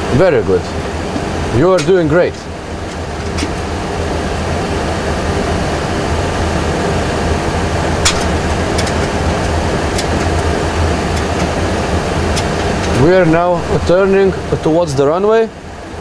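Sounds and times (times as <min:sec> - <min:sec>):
low engine hum: 0:00.0 - 0:16.0
airflow rush: 0:02.3 - 0:16.0.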